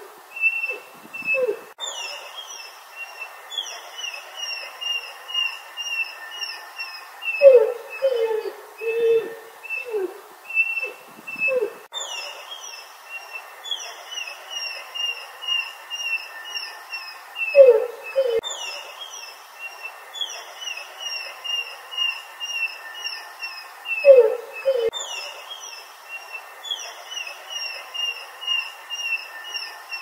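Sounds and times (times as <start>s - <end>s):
bird chirping: 0.4s - 30.0s.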